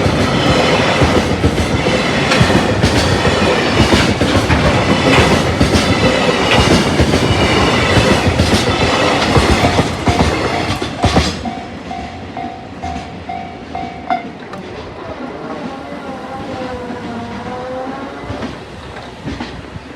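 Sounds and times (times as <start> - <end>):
freight train rumble: 0.0 - 19.9
train wheels clickety-clack: 0.0 - 19.9.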